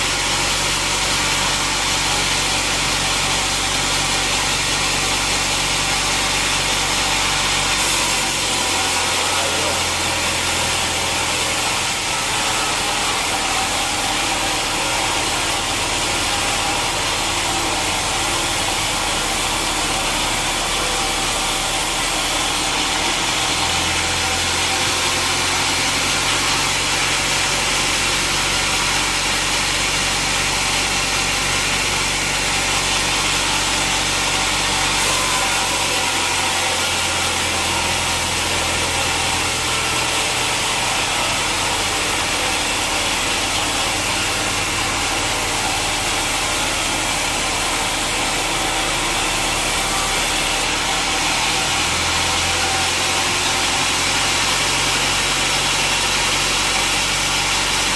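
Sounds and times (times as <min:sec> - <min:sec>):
sawmill saw cutting log: 0:00.0 - 0:57.9.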